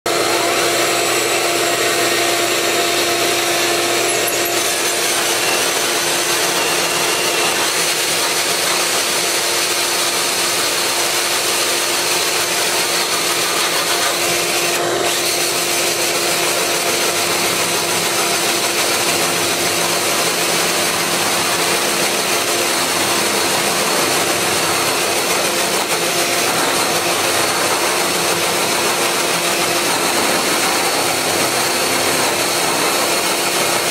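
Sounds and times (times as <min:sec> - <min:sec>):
drill hole saw grinding siding: 0:00.0 - 0:33.9
vacuum running: 0:00.1 - 0:33.9.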